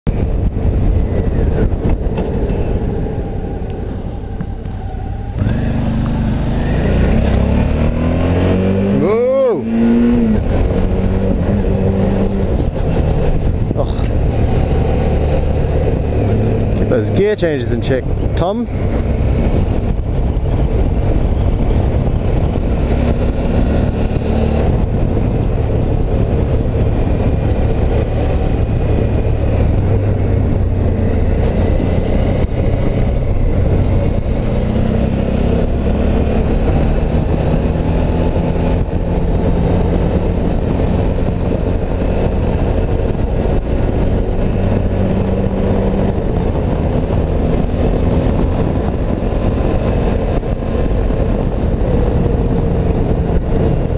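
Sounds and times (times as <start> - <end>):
motorcycle engine running at speed: 0.1 - 53.9.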